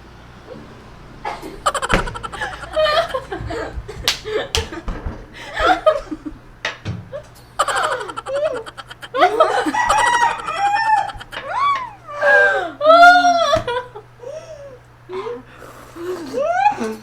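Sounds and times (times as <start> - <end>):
people laughing and giggling: 1.2 - 6.5, 7.1 - 17.0.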